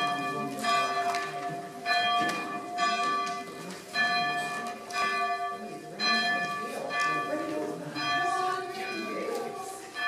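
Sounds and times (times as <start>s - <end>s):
church bell ringing: 0.0s - 10.0s.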